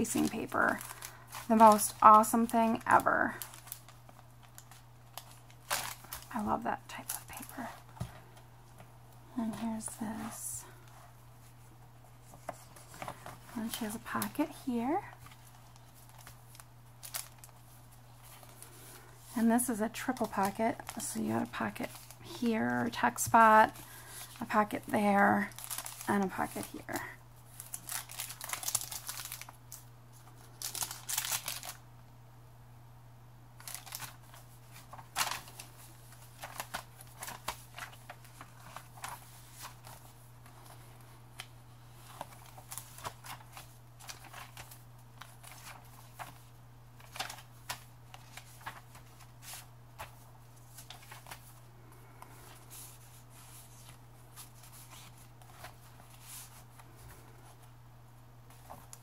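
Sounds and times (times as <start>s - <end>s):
paper pages rustling: 0.0s - 24.8s, 25.4s - 31.8s, 33.6s - 51.6s, 52.2s - 57.7s, 58.5s - 59.0s.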